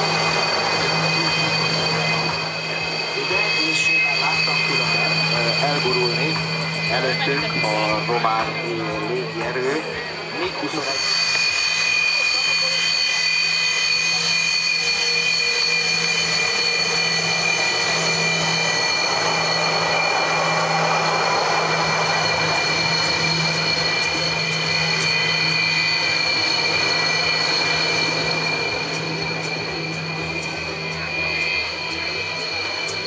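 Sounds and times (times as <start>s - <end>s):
jet engines whining at taxi power: 0.0s - 33.0s.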